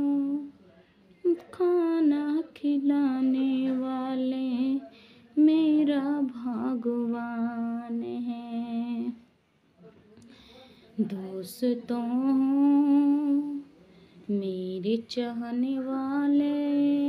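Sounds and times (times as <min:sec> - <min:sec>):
woman singing unaccompanied: 0:00.0 - 0:00.6, 0:01.2 - 0:09.3, 0:11.0 - 0:13.7, 0:14.3 - 0:17.0.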